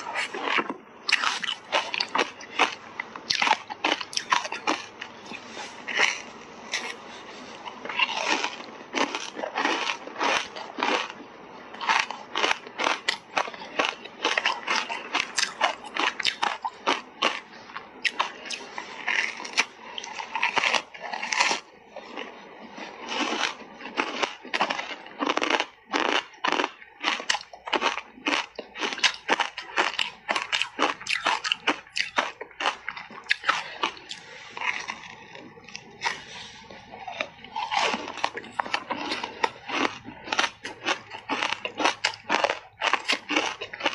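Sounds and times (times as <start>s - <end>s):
ice being chewed crunching: 0.0s - 43.9s.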